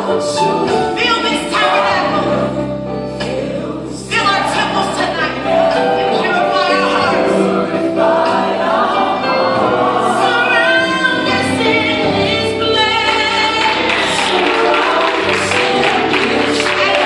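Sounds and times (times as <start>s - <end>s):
woman singing lead vocals: 0.0s - 9.0s, 10.0s - 17.0s
bass: 0.0s - 17.0s
choir singing: 0.0s - 17.0s
keyboard chords: 0.0s - 17.0s.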